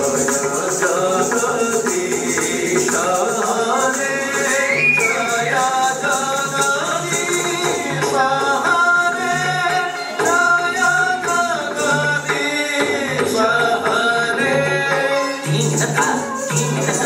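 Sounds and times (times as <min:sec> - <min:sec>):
person singing: 0:00.0 - 0:17.0
steady percussion: 0:00.0 - 0:17.0.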